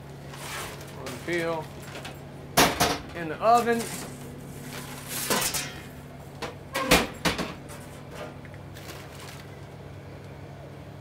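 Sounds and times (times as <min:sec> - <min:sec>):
low hum of kitchen equipment: 0:00.0 - 0:11.0.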